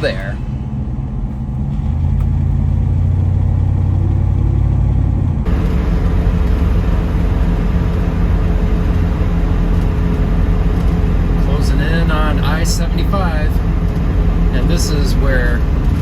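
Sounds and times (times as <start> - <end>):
car engine hum: 0.0 - 16.0
road noise: 0.0 - 16.0.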